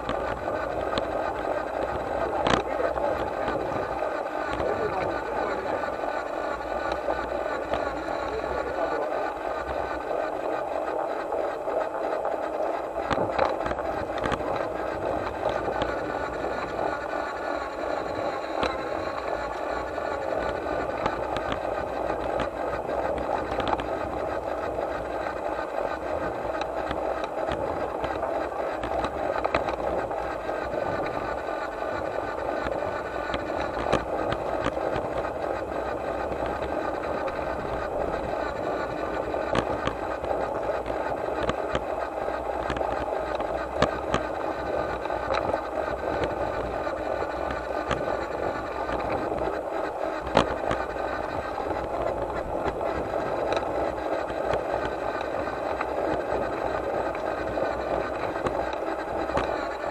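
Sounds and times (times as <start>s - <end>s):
model locomotive whirring: 0.0s - 59.9s
wheels clicking over track: 0.0s - 59.9s.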